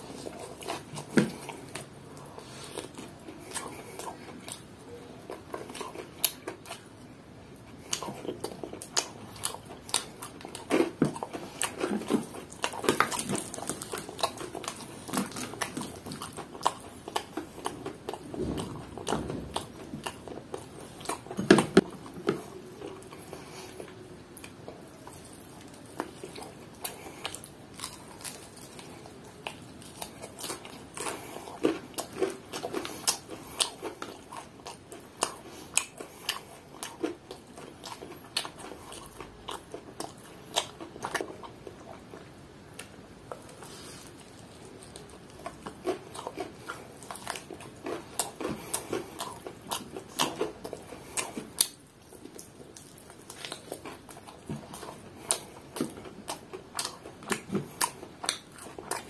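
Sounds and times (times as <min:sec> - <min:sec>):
chewing crispy fried chicken: 0:00.0 - 0:59.0.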